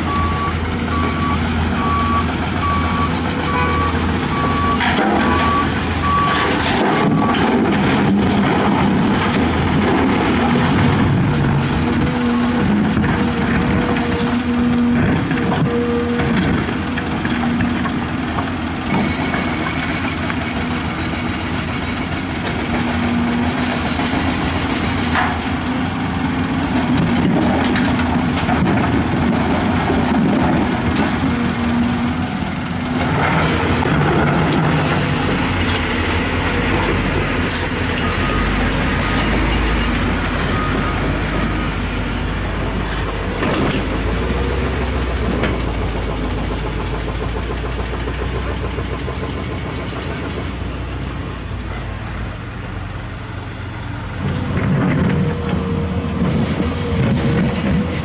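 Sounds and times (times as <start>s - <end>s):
dump truck engine running: 0.0s - 58.0s
excavator diesel engine running: 0.0s - 58.0s.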